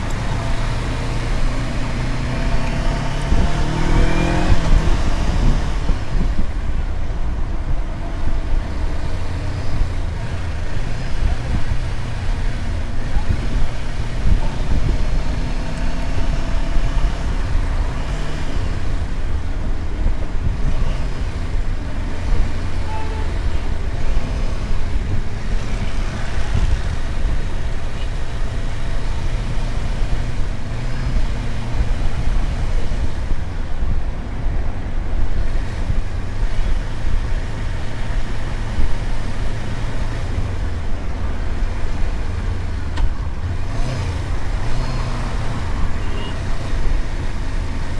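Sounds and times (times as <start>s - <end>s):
motorcycle engine running: 0.0s - 47.9s
road noise: 0.0s - 47.9s.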